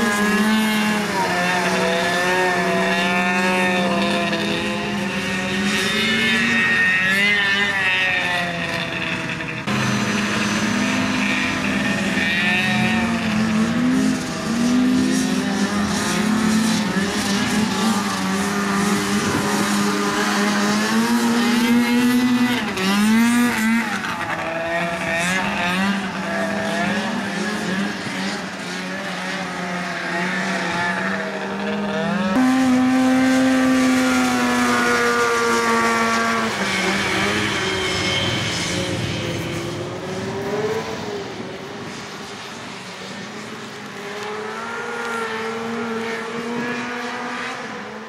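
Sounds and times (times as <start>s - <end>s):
racing engines revving: 0.0s - 48.0s.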